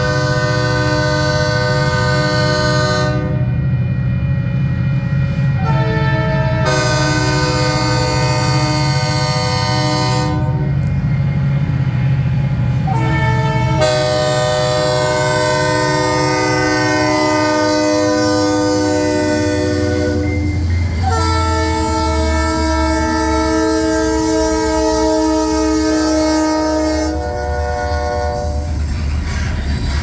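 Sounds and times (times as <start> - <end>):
locomotive air horn blasts: 0.0 - 3.6, 5.3 - 10.9, 12.8 - 28.7
locomotive engine rumble: 0.0 - 30.0.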